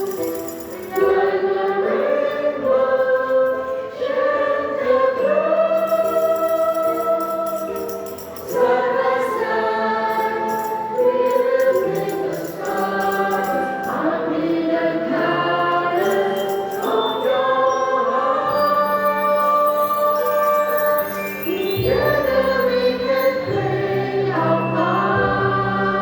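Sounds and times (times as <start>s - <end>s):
choir singing: 0.0s - 26.0s
instrumental accompaniment: 0.0s - 26.0s.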